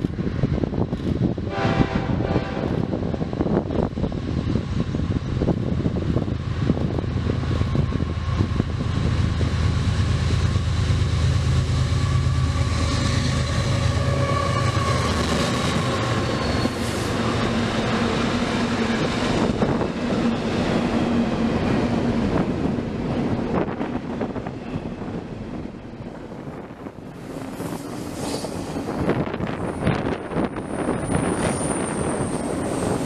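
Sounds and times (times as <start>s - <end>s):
diesel locomotive engines droning: 0.0s - 33.0s
train wheels rumbling on rail: 0.0s - 33.0s.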